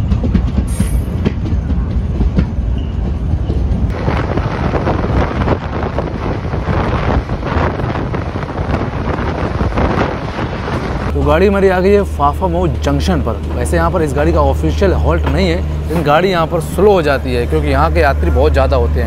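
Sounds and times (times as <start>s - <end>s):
wind rush: 0.0s - 18.2s
train wheels rumbling on rail: 0.0s - 19.0s.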